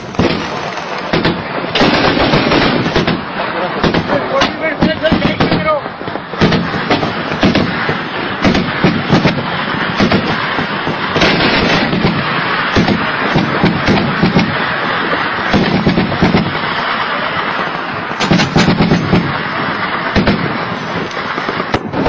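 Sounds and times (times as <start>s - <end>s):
heavy continuous gunfire: 0.0s - 22.0s.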